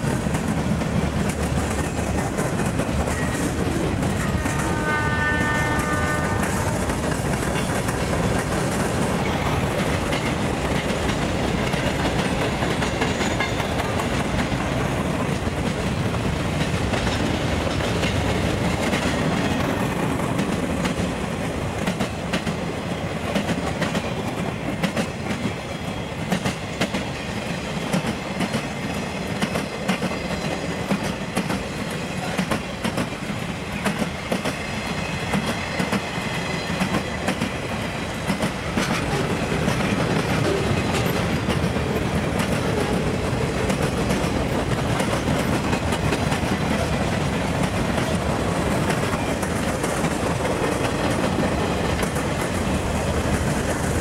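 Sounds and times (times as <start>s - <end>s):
train rumble: 0.0s - 54.0s
train wheels clicking over rail joints: 0.0s - 54.0s.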